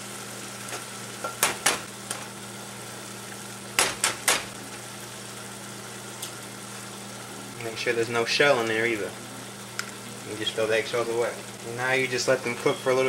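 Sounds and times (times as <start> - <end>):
stew sizzling in pot: 0.0 - 13.0.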